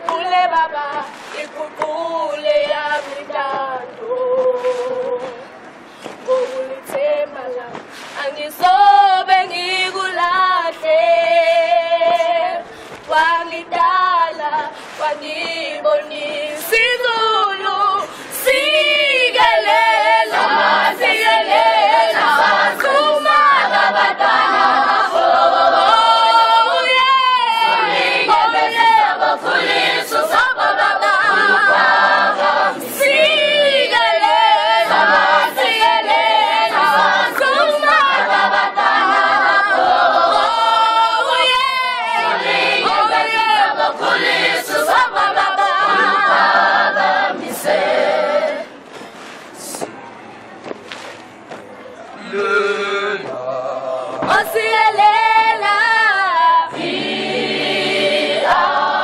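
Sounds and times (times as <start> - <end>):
choir singing a cappella: 0.0 - 5.5, 6.2 - 49.8, 52.2 - 59.0.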